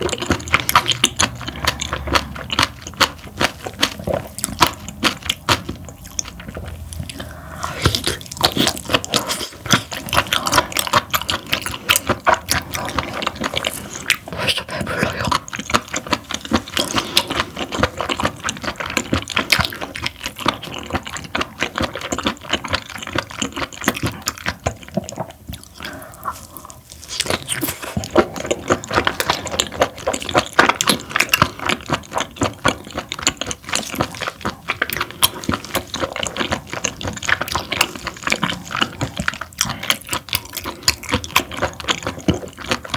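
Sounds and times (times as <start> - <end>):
close chewing with mouth clicks: 0.0 - 42.9.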